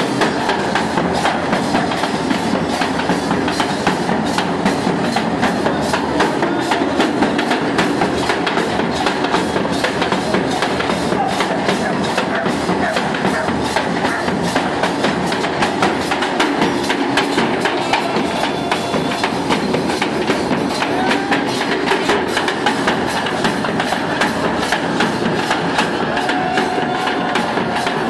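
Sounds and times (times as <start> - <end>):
bass drum and cymbal strikes: 0.0 - 28.0
crowd chatter: 0.0 - 28.0.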